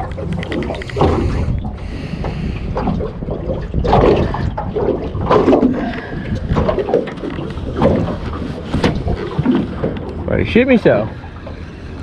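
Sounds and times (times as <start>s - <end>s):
water sloshing and splashing: 0.0s - 12.0s
wind rumble on microphone: 0.0s - 12.0s.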